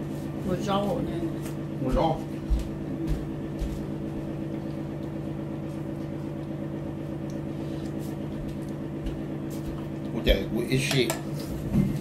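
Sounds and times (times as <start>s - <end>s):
appliance electrical hum: 0.0s - 12.0s.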